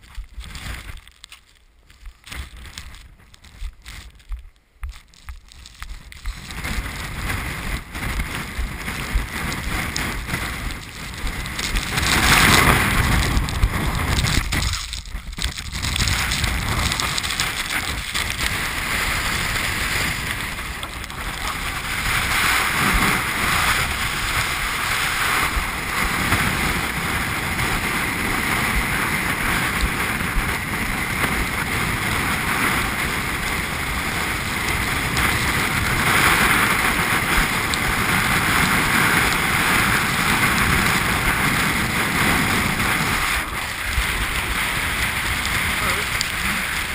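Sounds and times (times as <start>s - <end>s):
wind buffeting microphone: 2.0s - 46.9s.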